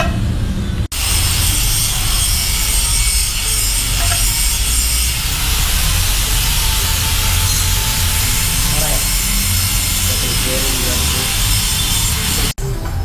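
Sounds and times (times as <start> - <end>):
machinery running: 0.0 - 13.0.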